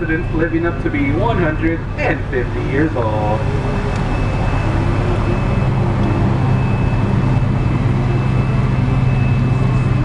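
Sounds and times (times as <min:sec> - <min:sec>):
boat motor humming: 0:00.0 - 0:10.0.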